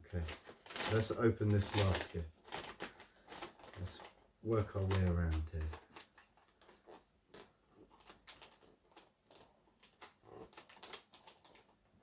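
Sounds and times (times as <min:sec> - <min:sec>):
wrapping paper rustling and crinkling: 0:00.0 - 0:12.0.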